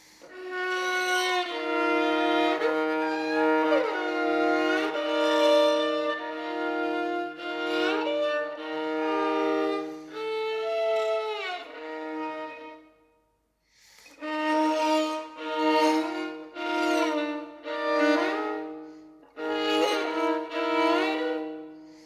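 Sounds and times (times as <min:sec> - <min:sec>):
bowed string instrument: 0:00.0 - 0:13.3, 0:14.0 - 0:22.0.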